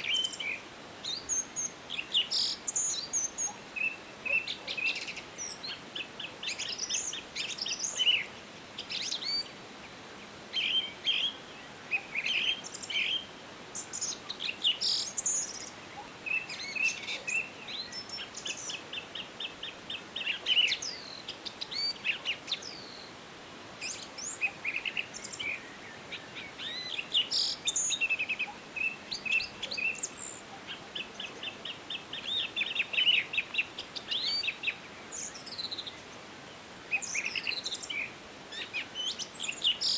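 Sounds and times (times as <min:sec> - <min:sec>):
faint steady hiss: 0:00.0 - 0:39.9
songbirds singing and calling: 0:00.0 - 0:39.9.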